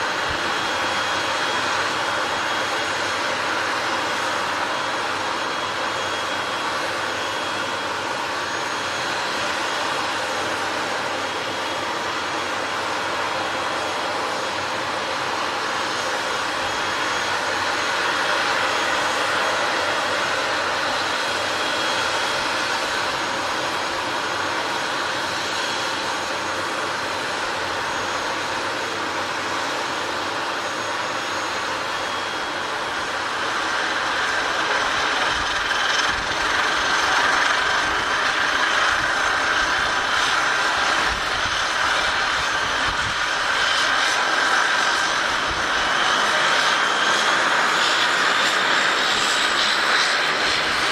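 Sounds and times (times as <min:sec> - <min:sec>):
aircraft engines whining: 0:00.0 - 0:50.9.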